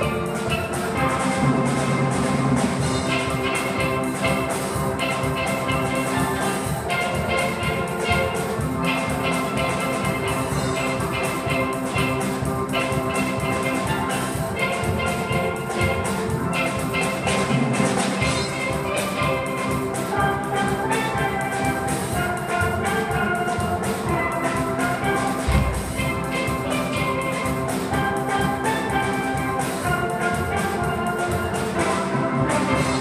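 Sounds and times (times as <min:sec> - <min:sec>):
steel pan ensemble playing: 0:00.0 - 0:33.0.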